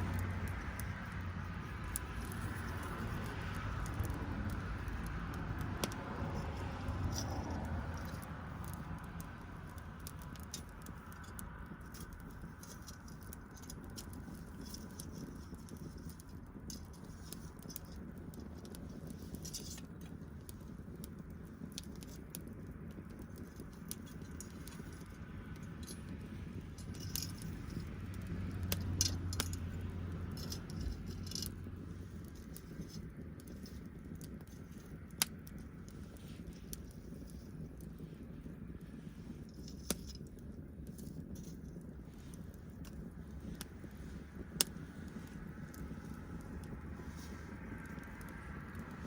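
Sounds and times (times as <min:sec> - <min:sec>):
low steady rumble: 0:00.0 - 0:49.0
wood fire crackling: 0:00.0 - 0:49.0.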